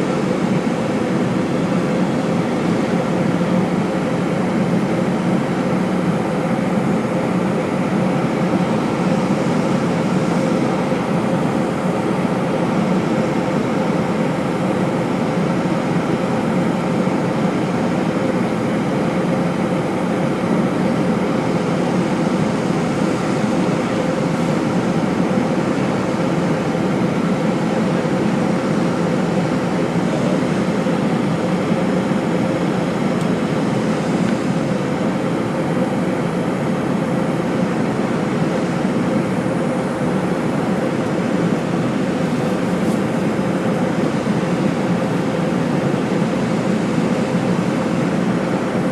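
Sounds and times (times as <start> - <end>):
airplane cabin engine noise: 0.0 - 48.9.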